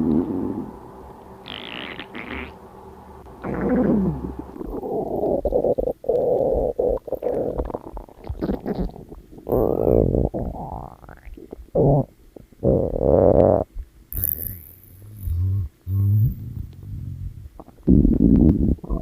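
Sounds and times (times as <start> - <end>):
stomach growling and gurgling: 3.4 - 19.0.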